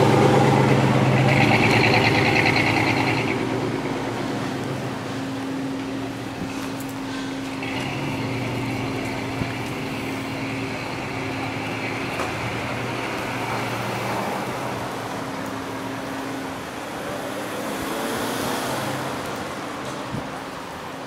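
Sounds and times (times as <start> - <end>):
minivan driving past: 0.0 - 19.3
street traffic hum: 0.0 - 21.0.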